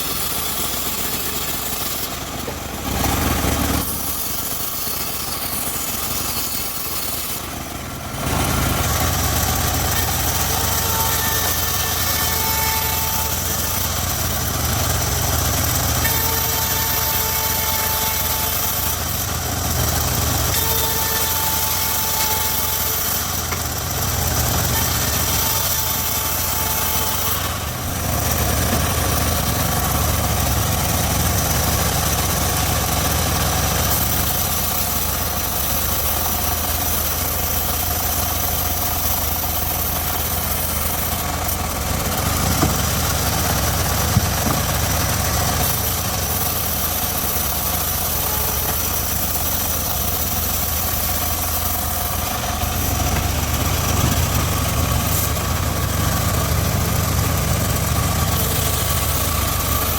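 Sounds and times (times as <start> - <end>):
sawmill engine droning: 0.0 - 59.9.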